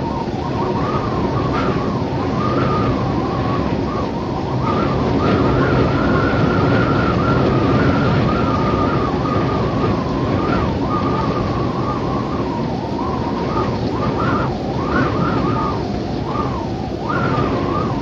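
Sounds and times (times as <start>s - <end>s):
wind rushing: 0.0s - 18.0s
wind whistling: 0.0s - 18.0s.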